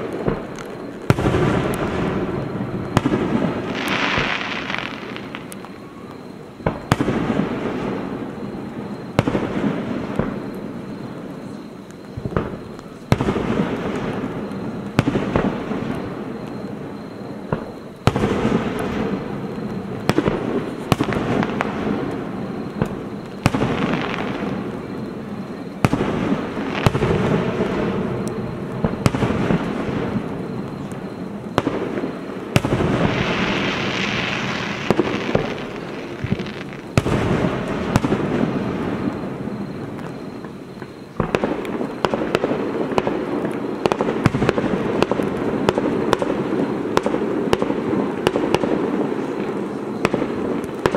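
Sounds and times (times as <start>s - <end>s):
fireworks bursting with echo: 0.0s - 50.9s.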